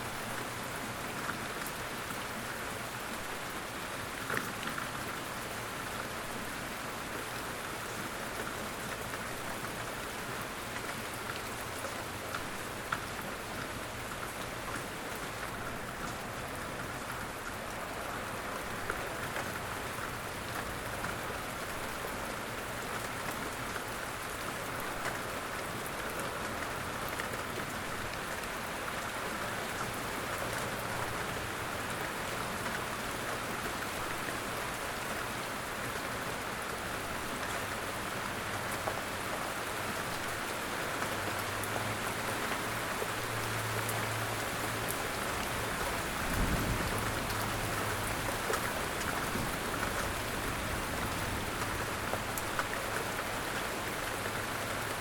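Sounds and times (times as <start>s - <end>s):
light rain falling: 0.0s - 55.0s
water drips and patters: 0.0s - 55.0s.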